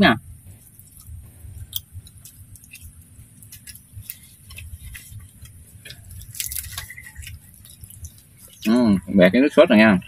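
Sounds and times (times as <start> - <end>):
person chewing crunchy food: 0.3 - 9.2.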